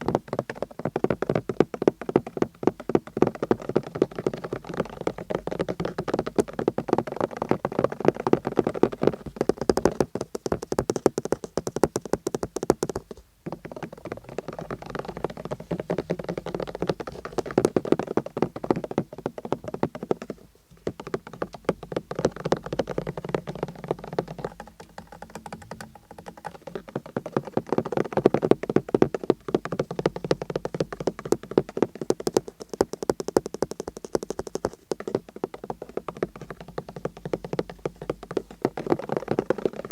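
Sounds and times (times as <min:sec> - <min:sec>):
fast tapping on a car: 0:00.0 - 0:39.9.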